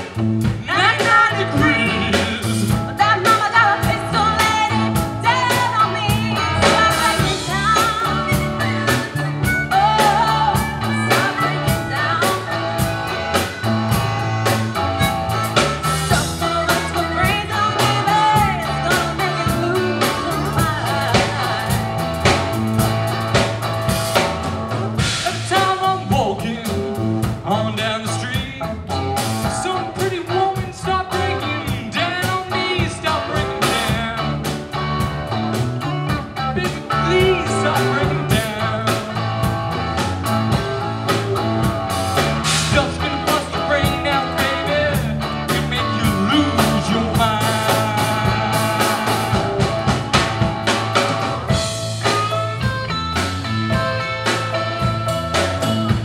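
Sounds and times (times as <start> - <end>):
live blues rock band: 0.0 - 56.0
harmonica bending notes: 0.6 - 56.0.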